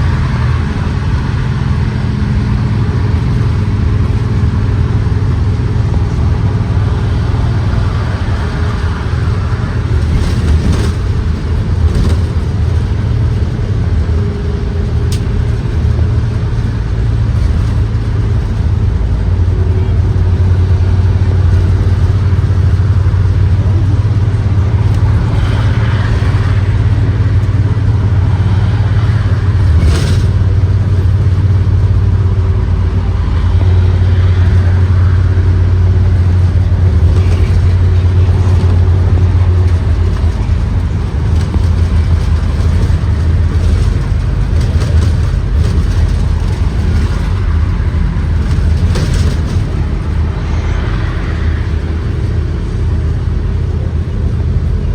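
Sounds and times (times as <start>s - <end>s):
bus engine drone: 0.0s - 54.9s
road noise: 0.0s - 54.9s.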